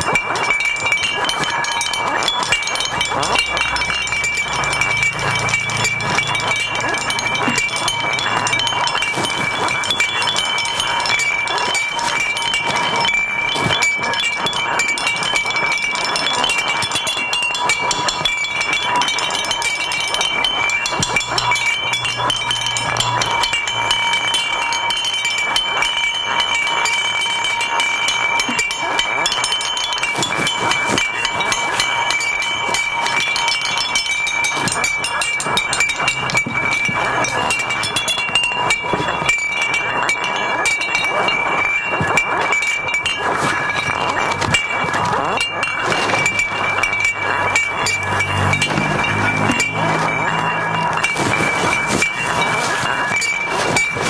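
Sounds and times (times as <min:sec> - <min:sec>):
cans and packaging clinking and rattling: 0:00.0 - 0:54.0
high ringing tones: 0:00.0 - 0:54.0.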